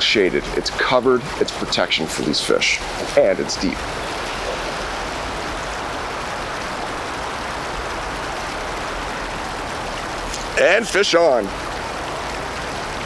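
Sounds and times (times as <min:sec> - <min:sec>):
water pouring over rock ledge: 0:00.0 - 0:13.0.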